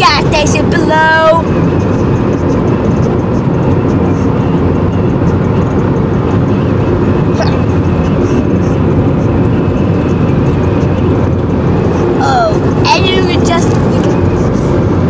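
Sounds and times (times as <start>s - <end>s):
car engine: 0.0s - 15.0s.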